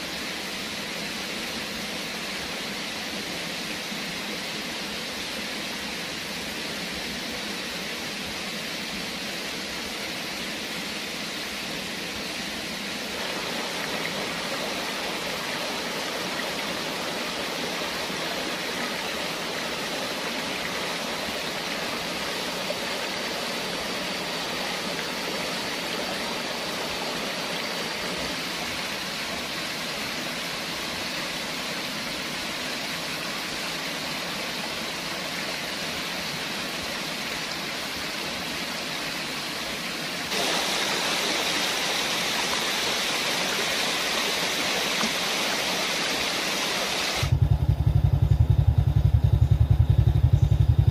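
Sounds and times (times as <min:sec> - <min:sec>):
stream running over rocks: 0:00.0 - 0:47.4.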